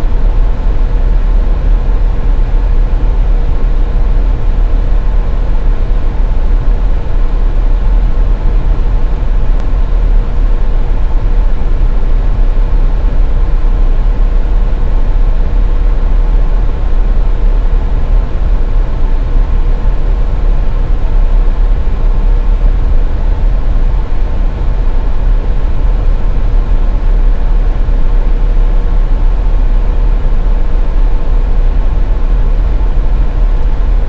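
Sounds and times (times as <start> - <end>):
faint constant hum: 0.0 - 34.0.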